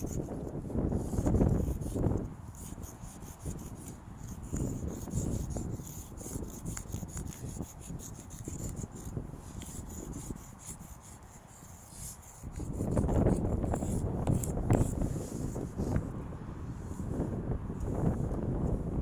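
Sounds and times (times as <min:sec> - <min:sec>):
chalk scraping on rough surface: 0:00.0 - 0:16.1
wind rumbling on microphone: 0:00.0 - 0:19.0.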